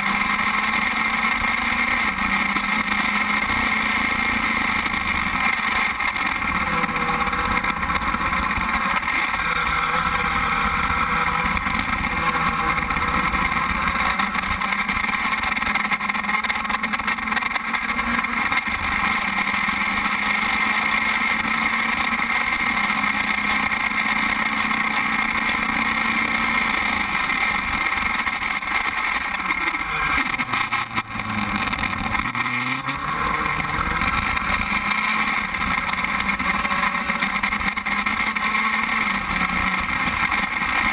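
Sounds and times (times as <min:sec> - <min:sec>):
race car engine idling: 0:00.0 - 0:40.9.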